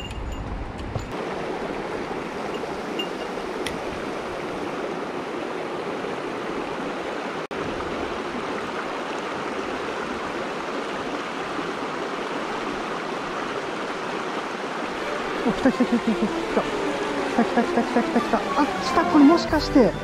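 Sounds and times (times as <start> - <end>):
stream rushing over stones: 1.1 - 20.0.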